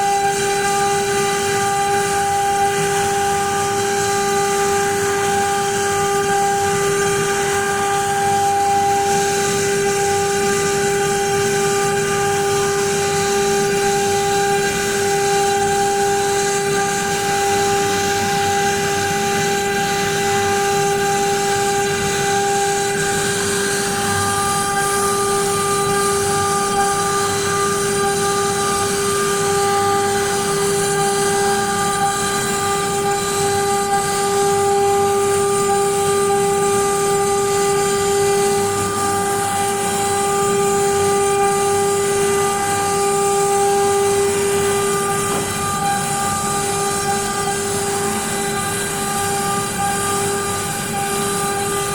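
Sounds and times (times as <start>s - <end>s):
cnc machine high whine: 0.0s - 51.9s.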